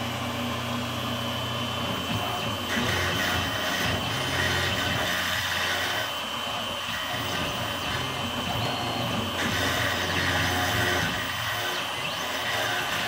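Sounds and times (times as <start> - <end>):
mill spindle whine: 0.0 - 13.0
end mill cutting wood: 1.1 - 13.0.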